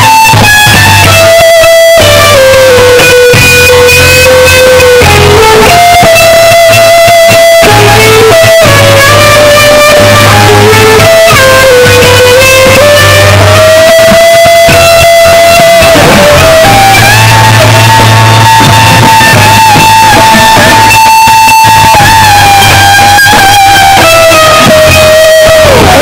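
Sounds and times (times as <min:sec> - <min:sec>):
electric guitar lead line: 0:00.0 - 0:26.0.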